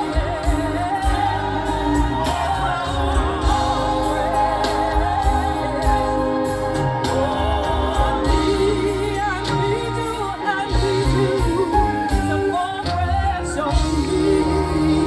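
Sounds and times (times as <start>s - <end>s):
bass: 0.0s - 15.0s
drum beats: 0.0s - 15.0s
person singing: 0.0s - 15.0s.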